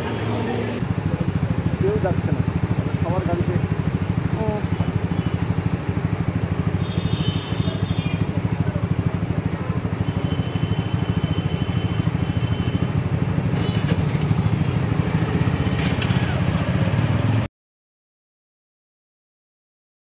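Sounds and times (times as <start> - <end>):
small motorbike engine running: 0.0 - 17.5.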